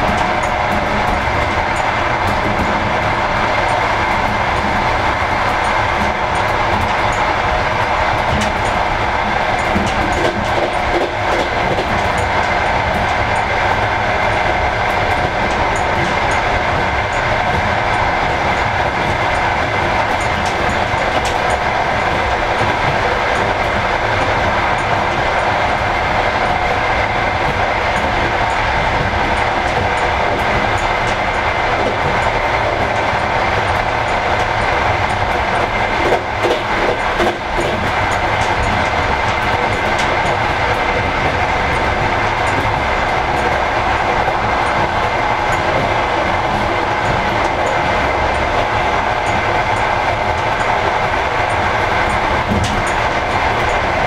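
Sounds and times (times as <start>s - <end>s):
steady whine: 0.0s - 54.0s
train rolling rumble and rail noise: 0.0s - 54.0s.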